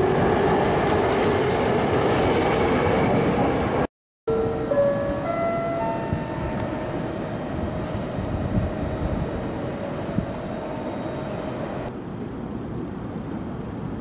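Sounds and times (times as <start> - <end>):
railway platform rumble: 0.0 - 14.0.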